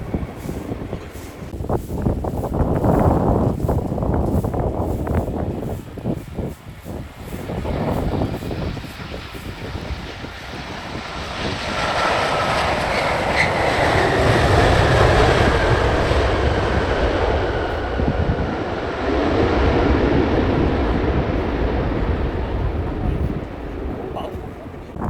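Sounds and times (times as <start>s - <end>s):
jet engines passing close: 0.0s - 25.0s.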